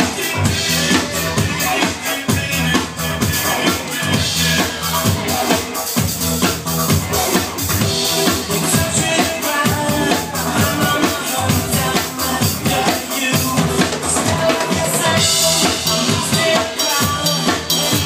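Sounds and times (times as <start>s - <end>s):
electronic dance track: 0.0s - 18.0s
live drum kit: 0.0s - 18.0s.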